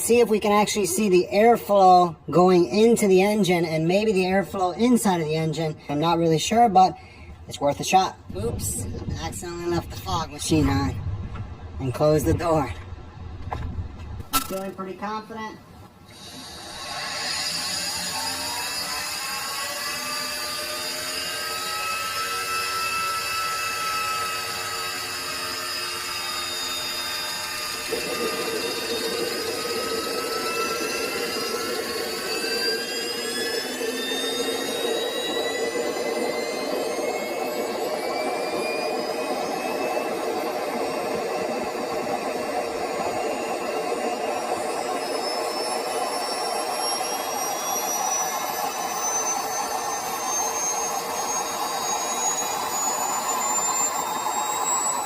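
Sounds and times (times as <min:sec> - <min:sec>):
jet engine rushing roar: 0:00.0 - 0:55.0
jet engine whine: 0:00.0 - 0:55.0.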